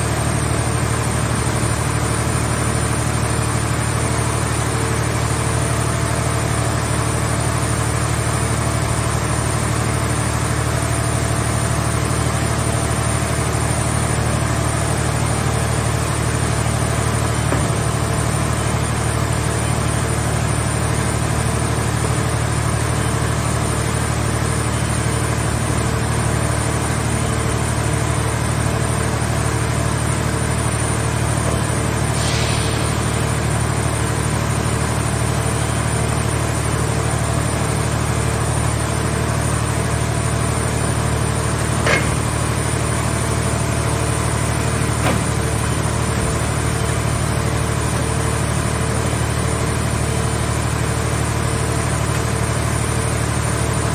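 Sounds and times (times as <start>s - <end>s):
machine power unit humming: 0.1s - 31.7s, 32.8s - 53.9s.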